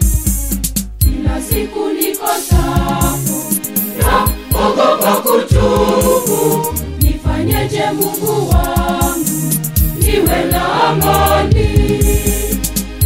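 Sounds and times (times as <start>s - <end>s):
backing music with steady beat: 0.0s - 13.0s
choir singing: 1.1s - 13.0s.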